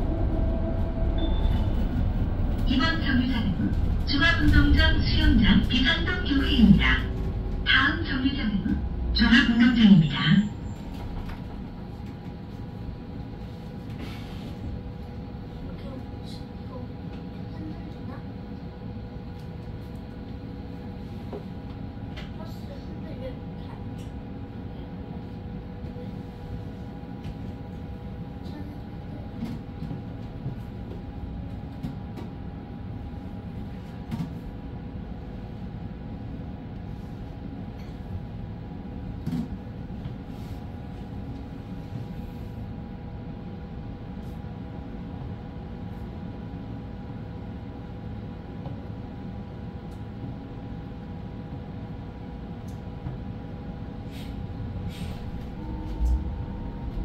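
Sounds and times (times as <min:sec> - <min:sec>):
bus cabin low rumble: 0:00.0 - 0:57.0.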